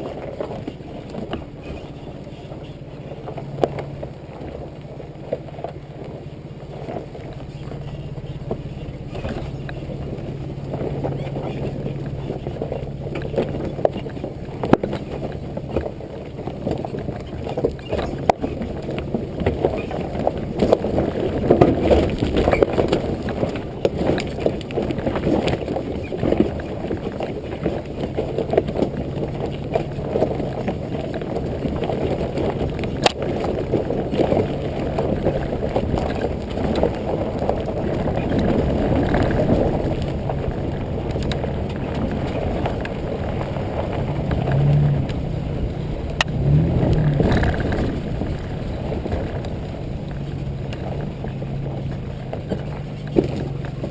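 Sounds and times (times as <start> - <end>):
car engine hum: 0.0 - 53.9
stones knocking under wheels: 0.0 - 53.9
tyres rumbling on dirt track: 0.0 - 53.9.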